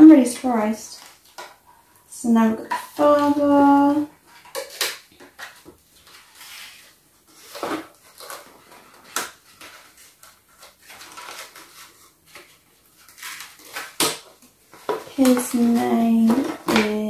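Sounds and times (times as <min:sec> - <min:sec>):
toy box packaging rustling: 0:02.7 - 0:17.0.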